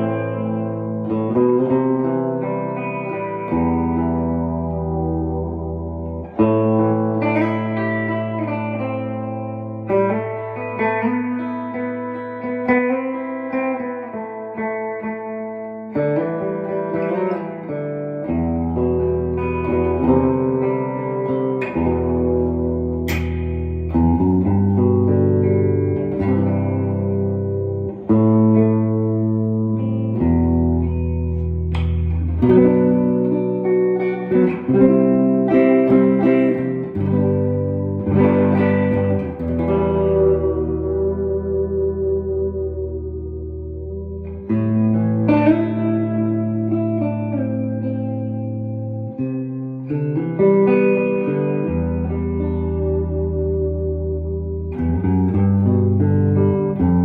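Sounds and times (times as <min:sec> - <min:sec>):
clean electric guitar chords: 0:00.0 - 0:57.0.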